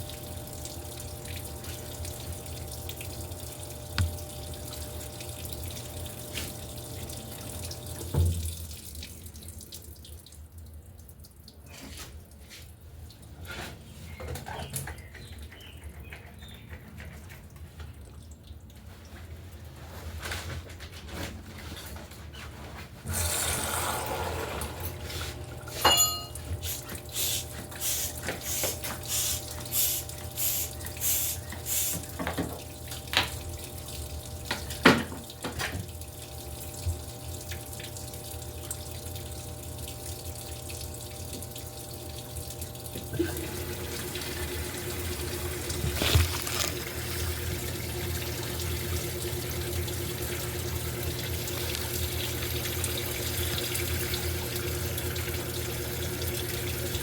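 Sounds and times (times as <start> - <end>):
washing machine water splashing: 0.0 - 15.7, 17.1 - 57.0.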